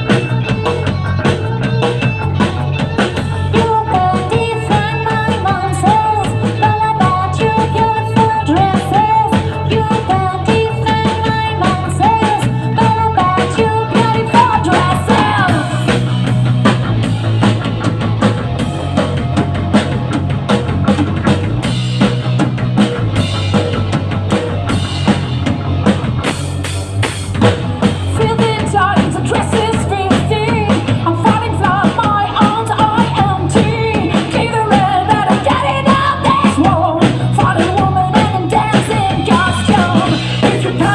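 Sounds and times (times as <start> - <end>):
drum kit: 0.0 - 40.9
live rock band playing: 0.0 - 40.9.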